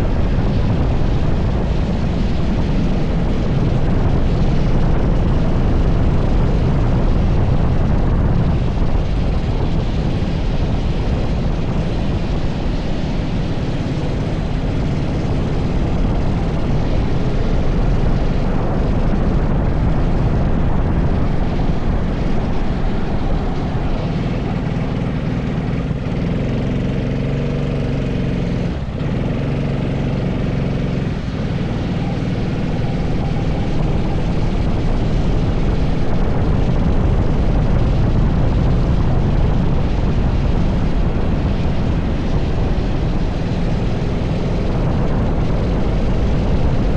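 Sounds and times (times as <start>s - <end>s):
kart engine running: 0.0s - 46.9s
wind rumble: 0.0s - 46.9s.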